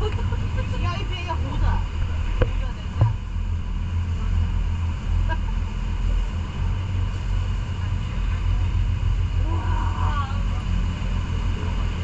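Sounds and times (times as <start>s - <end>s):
boat engine rumble: 0.0s - 12.0s
rush of wind and water: 0.0s - 12.0s.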